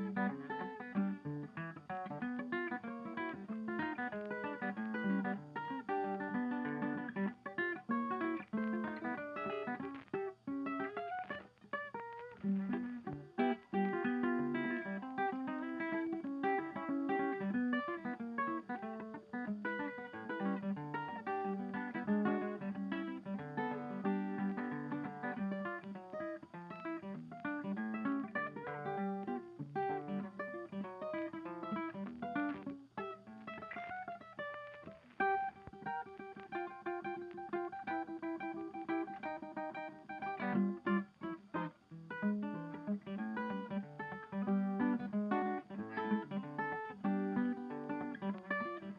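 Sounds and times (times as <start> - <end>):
acoustic guitar music: 0.0 - 48.9.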